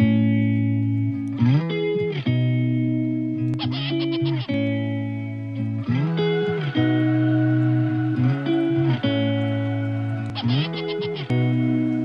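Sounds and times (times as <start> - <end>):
guitar playing held notes: 0.0 - 12.0.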